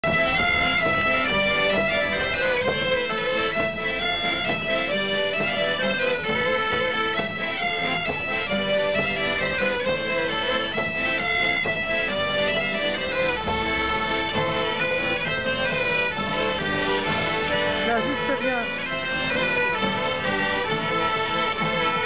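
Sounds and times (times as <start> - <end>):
bagpipe: 0.0 - 22.0
button accordions: 0.0 - 22.0
fiddle: 0.0 - 22.0.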